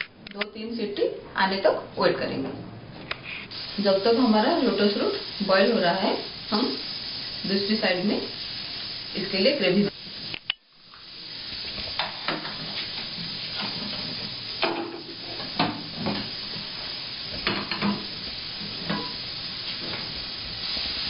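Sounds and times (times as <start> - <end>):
pressure cooker hissing: 3.5 - 21.0.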